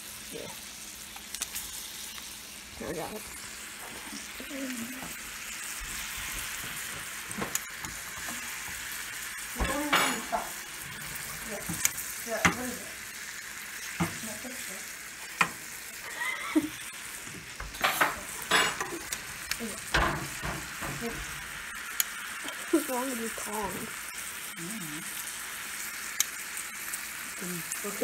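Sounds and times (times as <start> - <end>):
meat sizzling in butter: 0.0 - 28.0.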